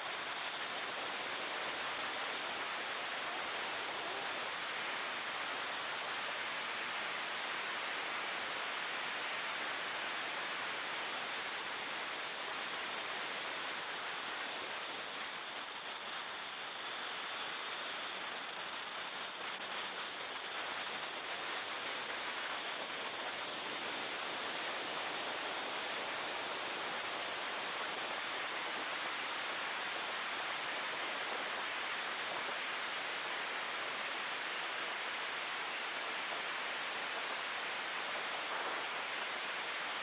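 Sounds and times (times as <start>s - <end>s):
rushing roar inside race car: 0.2s - 40.0s.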